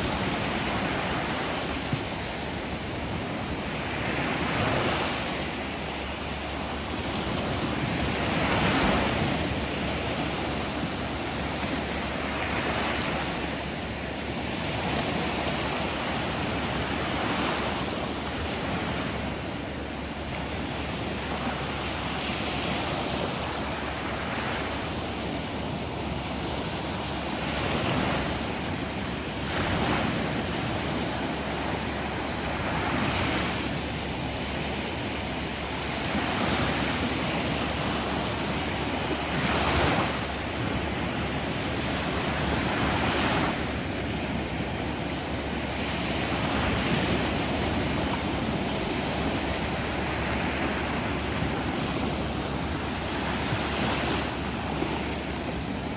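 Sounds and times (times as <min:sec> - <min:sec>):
sea waves breaking on shore: 0:00.0 - 0:55.9.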